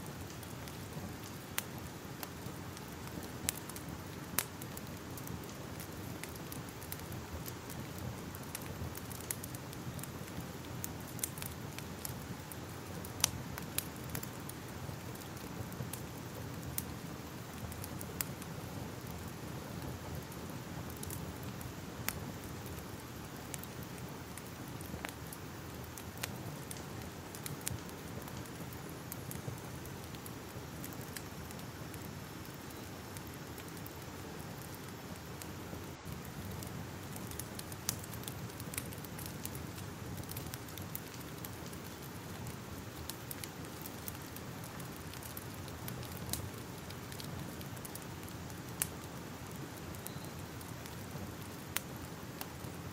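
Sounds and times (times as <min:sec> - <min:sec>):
fire crackling and popping: 0:00.0 - 0:52.9
fire hiss and rumble: 0:00.0 - 0:52.9.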